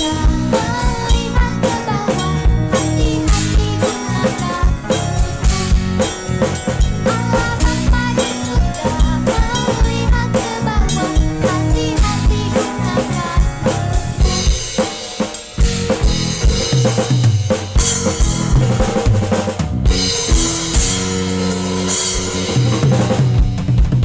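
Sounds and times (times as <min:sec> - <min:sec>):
bass line: 0:00.0 - 0:14.9, 0:15.5 - 0:24.0
drum kit: 0:00.0 - 0:24.0
upbeat band music: 0:00.0 - 0:24.0.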